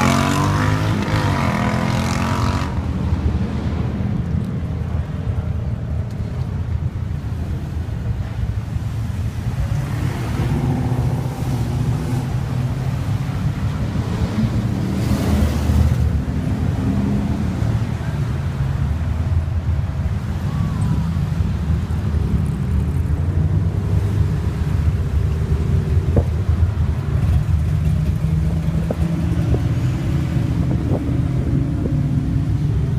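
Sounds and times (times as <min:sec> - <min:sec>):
car engine and road rumble: 0:00.0 - 0:32.9.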